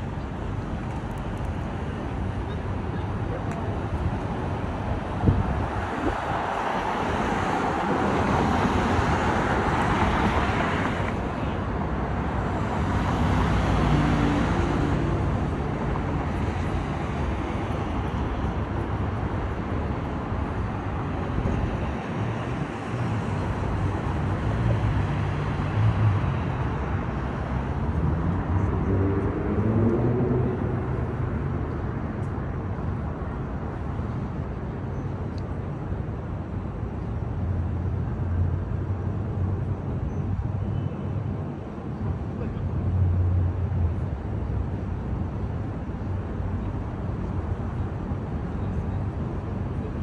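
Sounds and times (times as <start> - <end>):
cars going by: 0.0 - 50.0.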